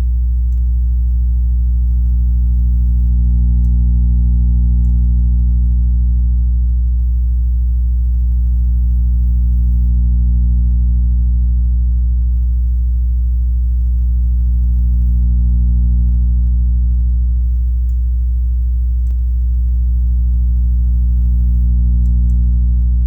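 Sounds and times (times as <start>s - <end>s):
low sine test tone hum: 0.0s - 23.0s.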